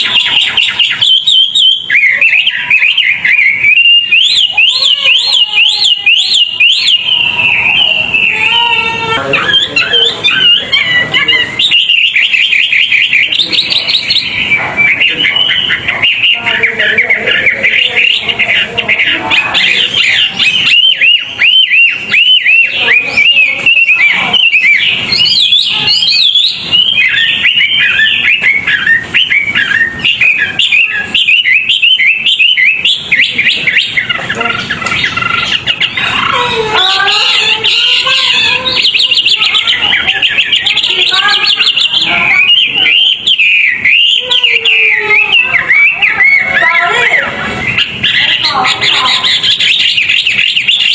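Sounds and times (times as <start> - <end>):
low chattering bird notes: 0.0 - 50.9
songbird chirping and trilling: 0.0 - 50.9.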